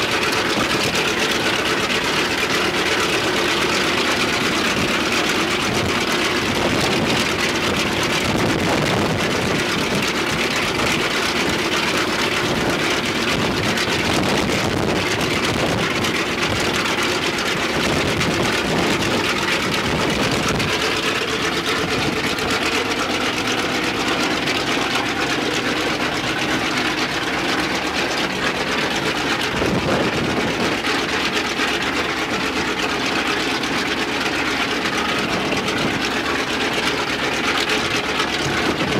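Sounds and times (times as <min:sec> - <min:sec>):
radial piston engine running: 0:00.0 - 0:38.9.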